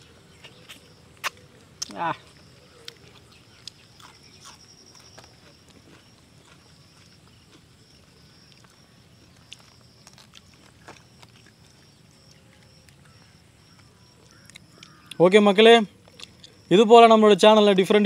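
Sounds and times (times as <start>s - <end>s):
steady high-pitched hum: 0.0s - 18.0s.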